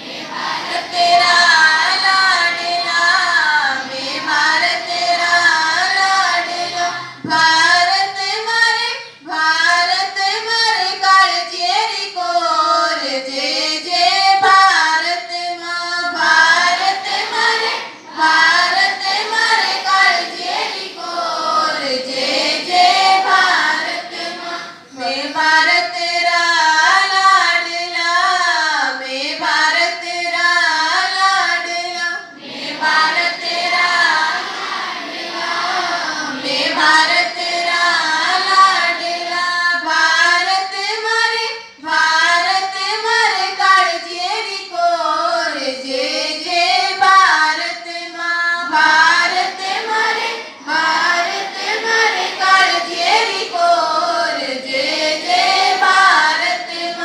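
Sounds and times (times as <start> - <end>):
children singing in unison: 0.0 - 57.0.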